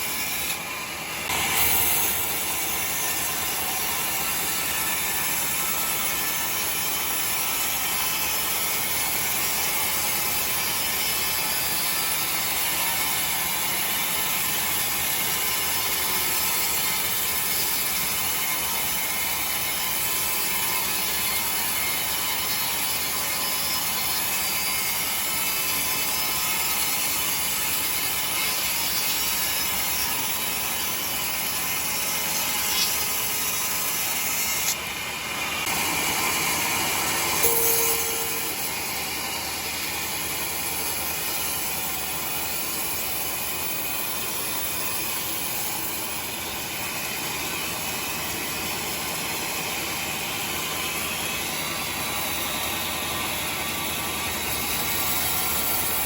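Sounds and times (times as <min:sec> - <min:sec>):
saw cutting timber: 0:00.0 - 0:56.0.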